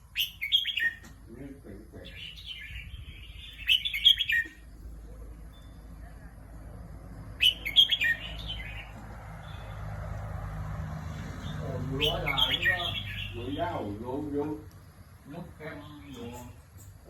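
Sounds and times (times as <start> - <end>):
bird singing chirpy phrases: 0.0 - 6.3, 7.3 - 9.9, 11.2 - 17.0.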